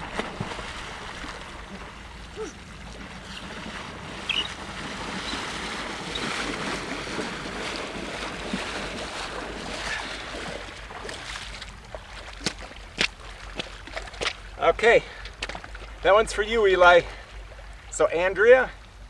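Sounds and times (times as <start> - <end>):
legs splashing through water: 0.0 - 16.4
small waves lapping: 0.0 - 19.0.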